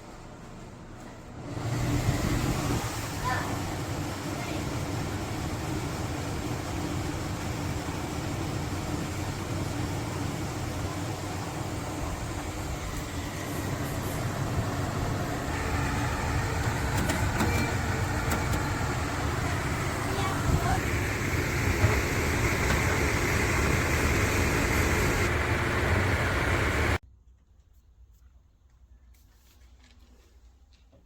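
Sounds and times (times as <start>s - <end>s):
air conditioner running: 0.0s - 27.0s.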